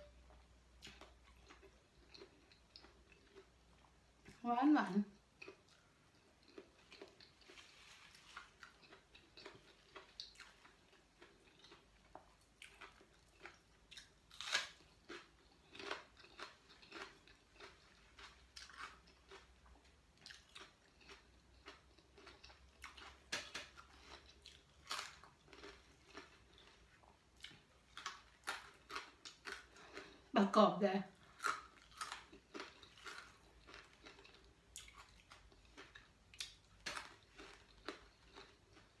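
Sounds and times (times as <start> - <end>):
person chewing crunchy food: 0.1 - 4.4, 5.2 - 30.3, 31.2 - 39.0.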